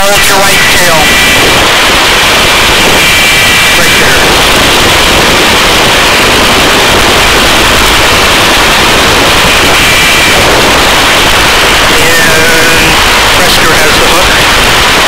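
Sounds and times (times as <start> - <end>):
helicopter hovering: 0.0 - 15.0.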